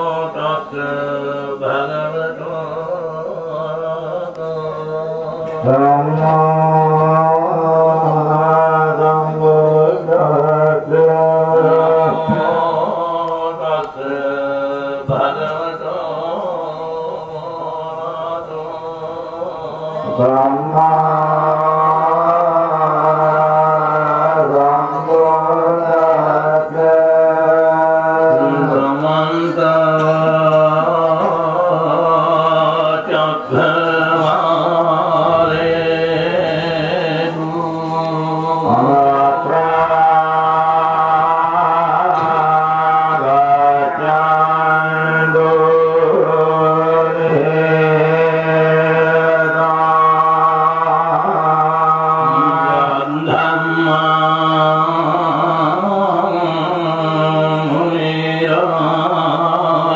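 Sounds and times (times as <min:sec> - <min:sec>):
voices chanting: 0:00.0 - 0:59.9.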